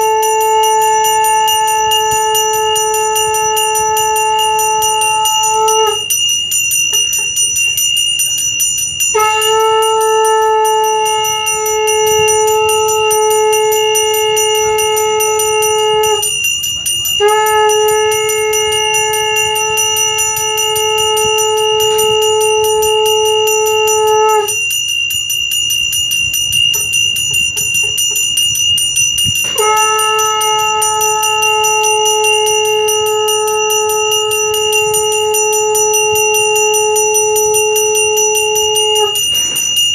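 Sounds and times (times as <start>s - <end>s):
conch shell blown: 0.0s - 39.9s
hand bell ringing rapidly: 0.0s - 39.9s.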